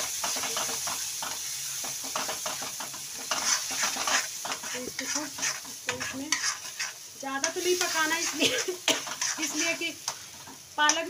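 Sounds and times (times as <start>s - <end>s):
metal spoon scraping a pan: 0.0s - 11.0s
puree sizzling in hot oil: 0.0s - 11.0s.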